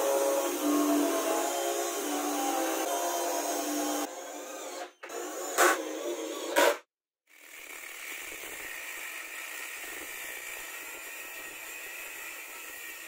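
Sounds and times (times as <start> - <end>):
angle grinder cutting steel: 0.0 - 6.8, 7.4 - 13.0.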